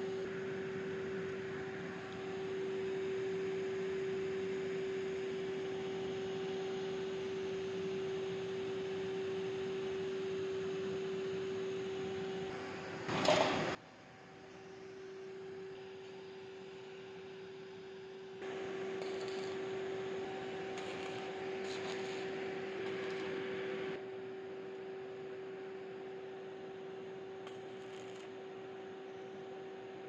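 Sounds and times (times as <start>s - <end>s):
steady hum with higher overtone: 0.0s - 30.0s.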